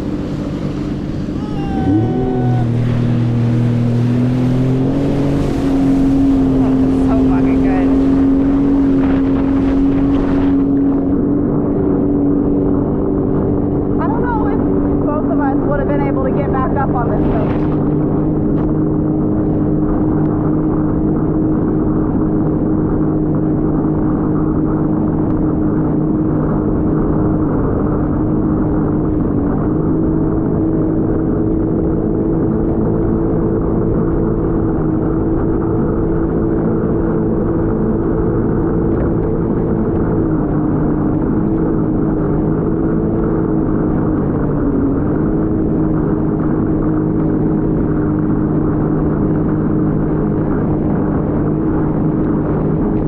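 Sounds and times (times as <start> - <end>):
jet ski engine running: 0.0 - 53.0.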